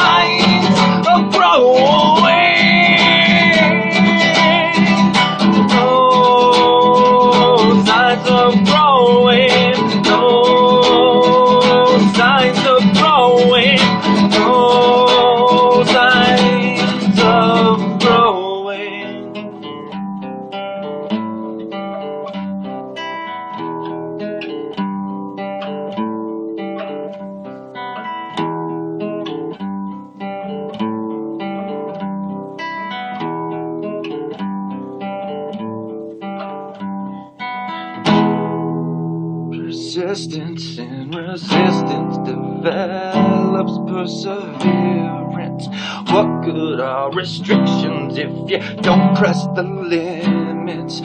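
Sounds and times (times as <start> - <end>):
acoustic guitar music: 0.0 - 51.0.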